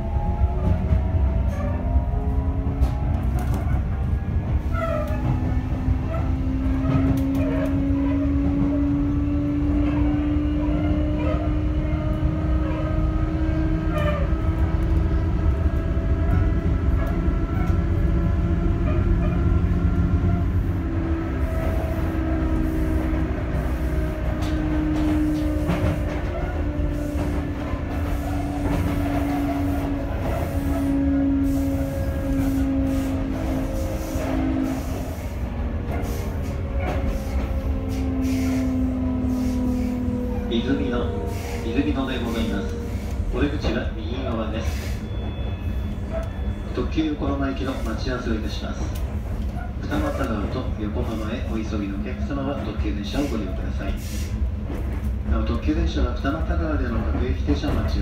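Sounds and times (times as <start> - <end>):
train gearing whine: 0.0 - 58.0
wheels rumbling on rail: 0.0 - 58.0.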